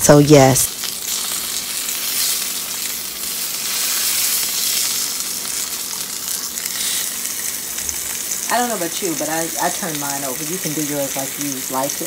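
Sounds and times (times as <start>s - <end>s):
fish sizzling on a grill: 0.7s - 12.0s.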